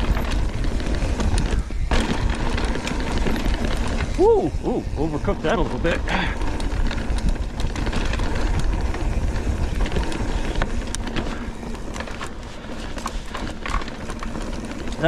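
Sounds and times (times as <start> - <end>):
bike rattling over bumps: 0.0 - 15.0
tyres on dirt: 0.0 - 15.0
wind buffeting microphone: 0.0 - 15.0.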